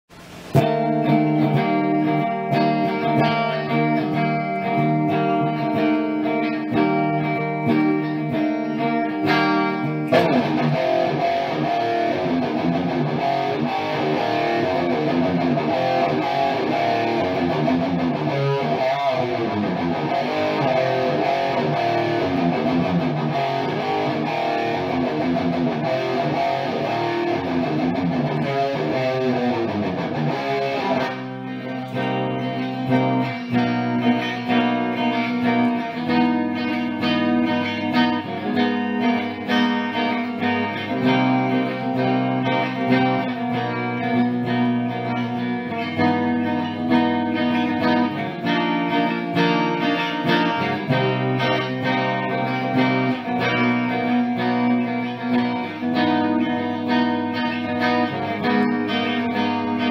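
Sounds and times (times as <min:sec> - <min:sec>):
electric guitar playing rock: 0:00.1 - 0:59.9.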